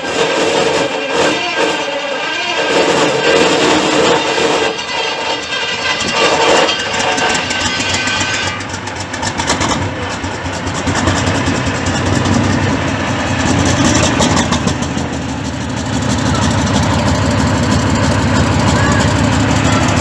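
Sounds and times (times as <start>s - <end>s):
tank diesel engine idling: 0.0s - 20.0s
heavy low rumble: 0.8s - 20.0s.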